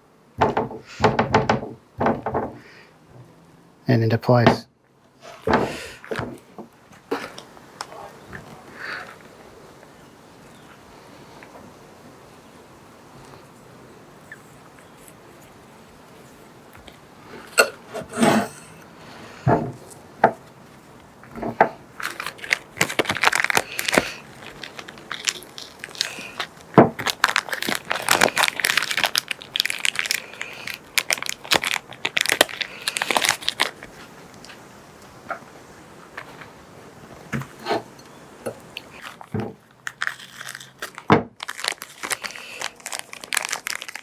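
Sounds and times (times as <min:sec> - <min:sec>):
crinkling and rustling: 0:05.2 - 0:11.8, 0:14.2 - 0:44.0.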